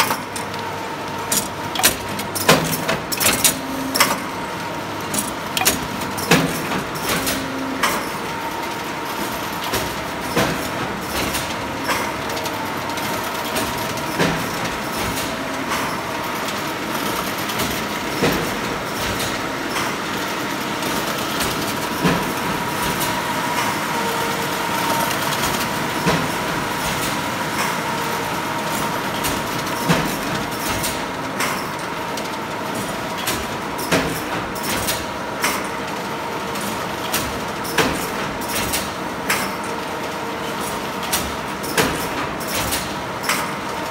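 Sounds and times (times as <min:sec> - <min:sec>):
machine clacks and clicks: 0:00.0 - 0:43.9
machine whirring: 0:00.0 - 0:43.9.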